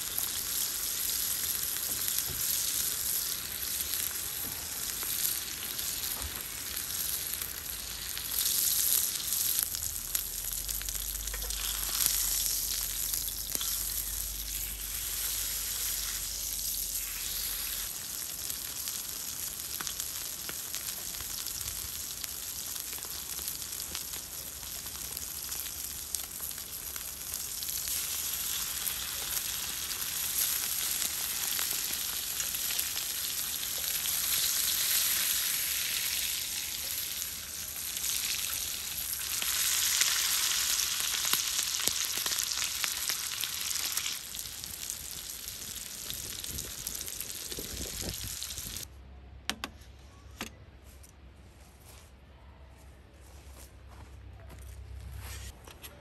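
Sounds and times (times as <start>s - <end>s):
steak sizzling on griddle: 0.0s - 48.8s
vegetables frying in pan: 0.0s - 48.9s.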